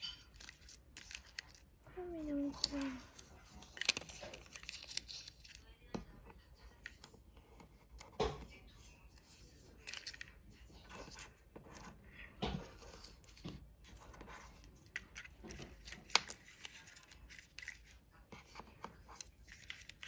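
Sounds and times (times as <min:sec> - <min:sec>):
paper rustling: 0:00.0 - 0:05.7, 0:06.3 - 0:20.0.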